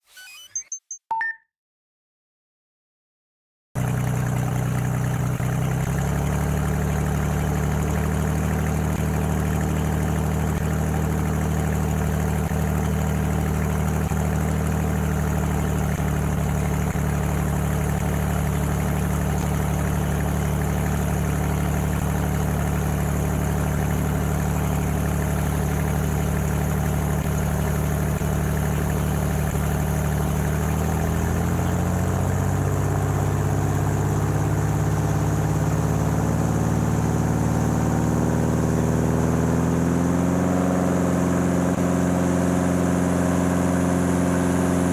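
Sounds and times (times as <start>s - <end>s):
propeller plane engine running: 3.8s - 44.9s.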